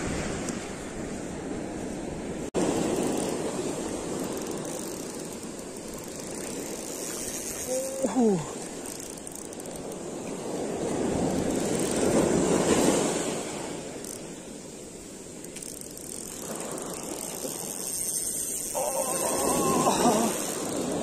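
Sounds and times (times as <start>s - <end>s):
surf washing up beach: 0.0s - 21.0s.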